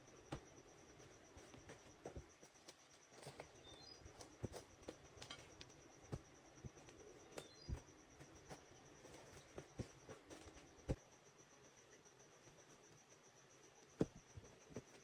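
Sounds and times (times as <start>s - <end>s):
cricket chirring: 0.0s - 15.0s.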